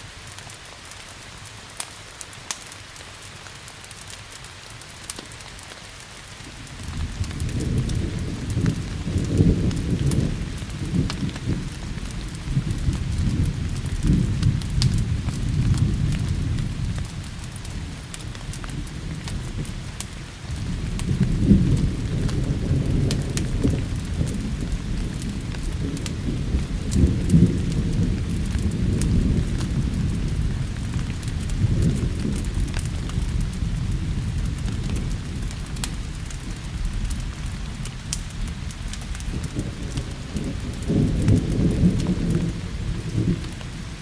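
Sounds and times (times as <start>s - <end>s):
steady rain: 0.0s - 44.0s
thunder rumbling: 6.5s - 44.0s.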